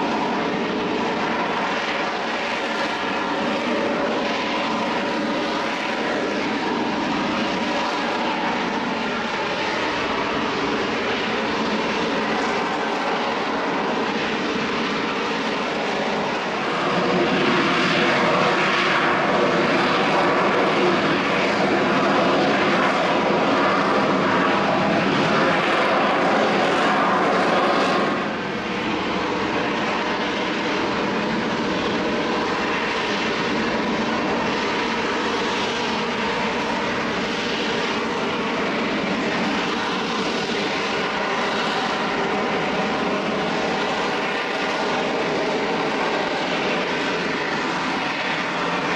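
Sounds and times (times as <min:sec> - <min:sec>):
jet engine rush and whine: 0:00.0 - 0:48.9.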